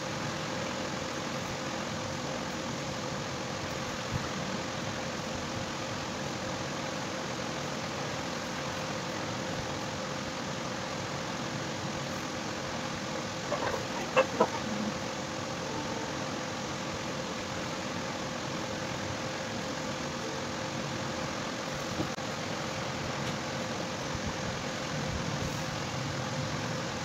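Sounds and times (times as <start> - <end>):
constant tone: 0.0 - 24.0
mechanical hum and hiss: 0.0 - 27.0.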